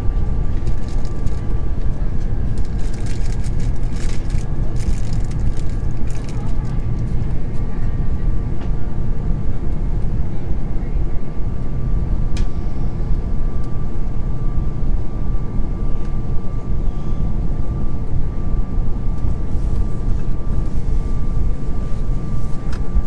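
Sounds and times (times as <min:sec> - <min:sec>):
aircraft cabin engine roar: 0:00.0 - 0:23.0.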